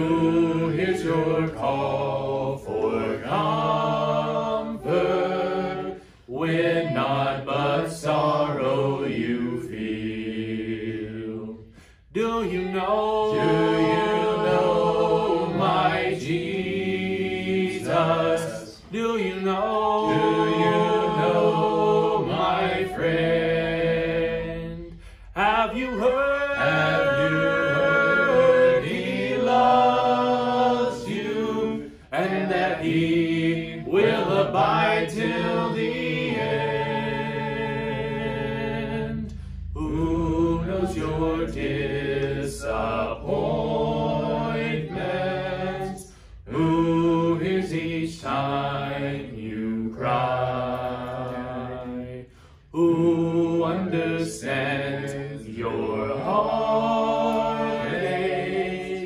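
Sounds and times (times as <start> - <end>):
voices singing a cappella hymn: 0.0 - 59.0.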